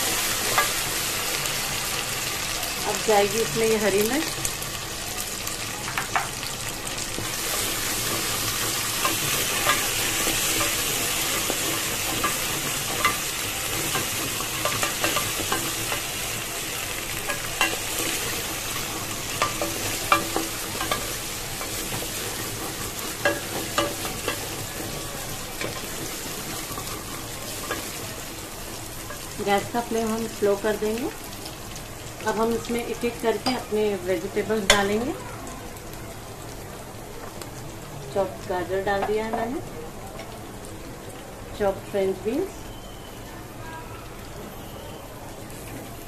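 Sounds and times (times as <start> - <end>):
onions sizzling in hot oil: 0.0 - 46.0.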